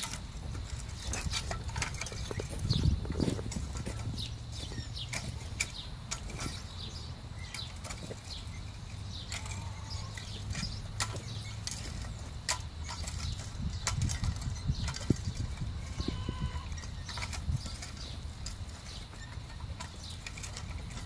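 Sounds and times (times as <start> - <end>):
wheel hoe clicking and rattling: 0.0 - 21.0.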